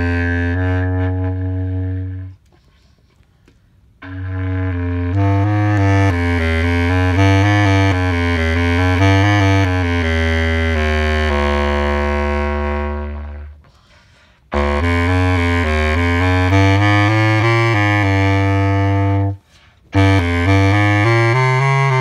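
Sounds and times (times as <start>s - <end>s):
bass clarinet melody: 0.0s - 2.5s, 3.9s - 13.6s, 14.5s - 22.0s.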